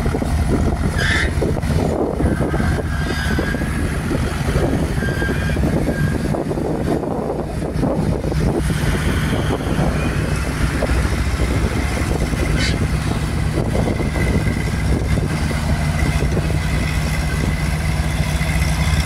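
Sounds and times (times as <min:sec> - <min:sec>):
excavator and tractor engines running: 0:00.0 - 0:19.0.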